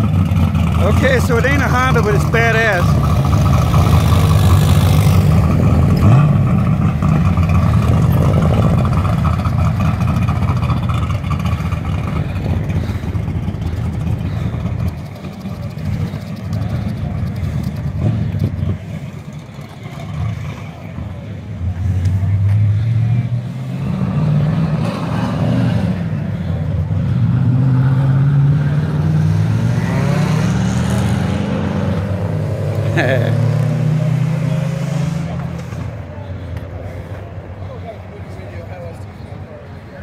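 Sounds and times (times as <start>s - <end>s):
car engine and exhaust: 0.0s - 40.0s
vehicle background noise: 0.0s - 40.0s.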